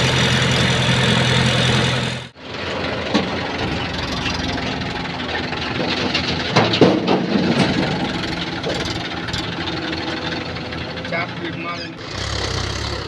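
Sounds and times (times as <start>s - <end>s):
machinery diesel engine running: 0.0s - 13.0s.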